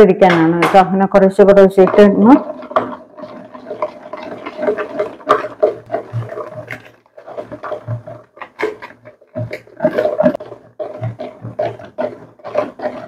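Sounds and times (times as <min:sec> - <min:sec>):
whisk beating batter in bowl: 0:00.0 - 0:13.0.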